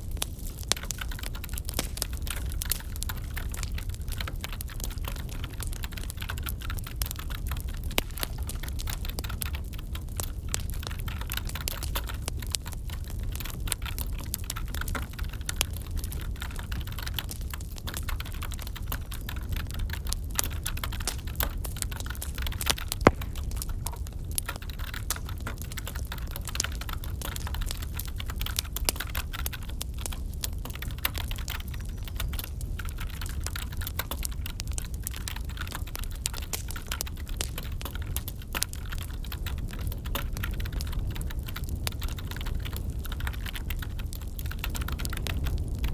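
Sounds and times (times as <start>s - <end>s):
crackling wood fire: 0.0s - 45.9s.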